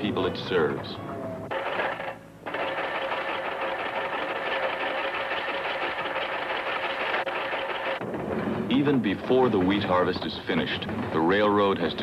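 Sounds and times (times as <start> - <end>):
machine clattering and humming: 0.0 - 12.0.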